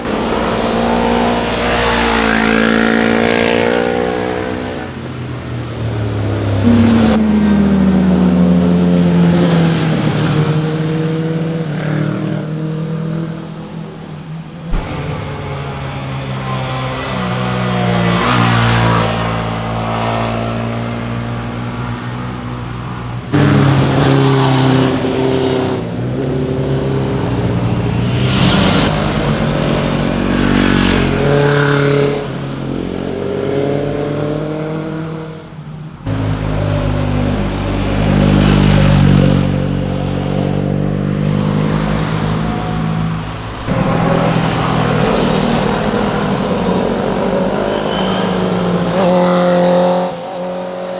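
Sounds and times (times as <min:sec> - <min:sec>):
motorcycles revving past: 0:00.0 - 0:14.0, 0:14.7 - 0:35.5, 0:36.1 - 0:50.9.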